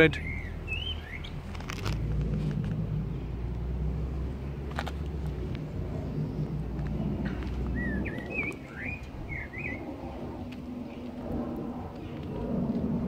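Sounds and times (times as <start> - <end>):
songbird singing: 0.0 - 11.2
low steady rumble: 0.0 - 13.0.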